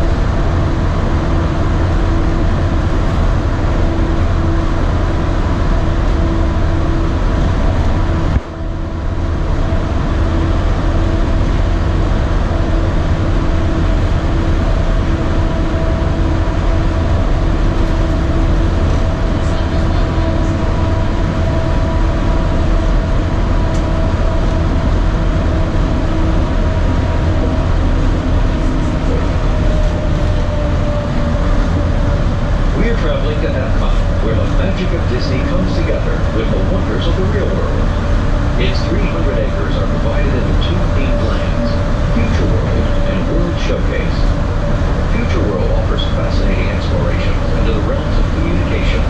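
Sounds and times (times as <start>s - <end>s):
monorail rumble: 0.0s - 49.0s.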